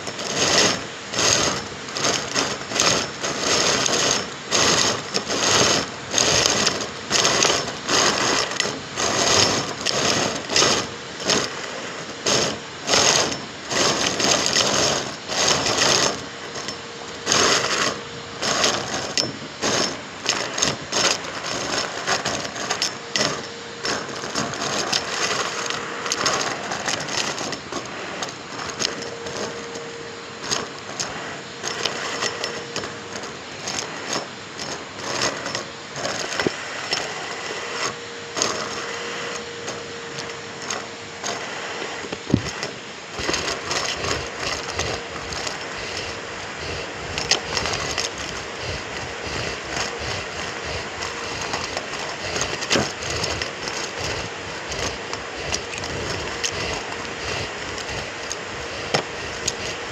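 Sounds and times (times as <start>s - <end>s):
crackling and rattling: 0.0s - 59.9s
vacuum cleaner running: 0.0s - 59.9s.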